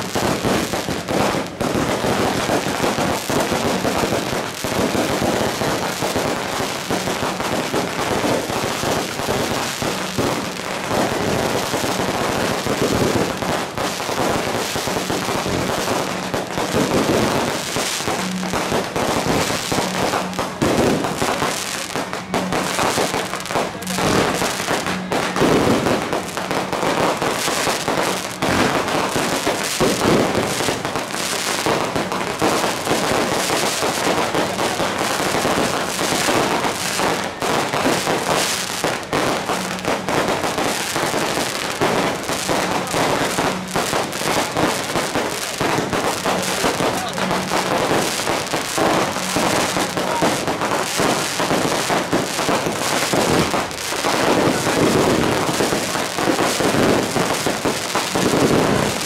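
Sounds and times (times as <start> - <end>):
firecrackers and fireworks crackling: 0.0 - 59.0.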